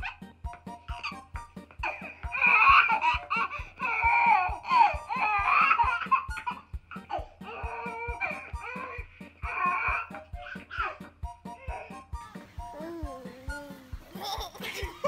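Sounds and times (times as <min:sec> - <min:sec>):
baby laughing: 0:00.0 - 0:11.0, 0:12.8 - 0:15.0
background music with beat: 0:00.0 - 0:15.0.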